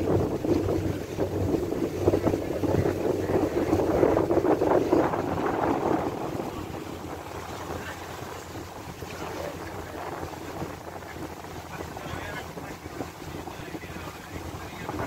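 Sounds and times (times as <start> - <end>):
boat engine running: 0.0 - 15.0
rushing water: 0.0 - 15.0
wind buffeting microphone: 0.0 - 15.0.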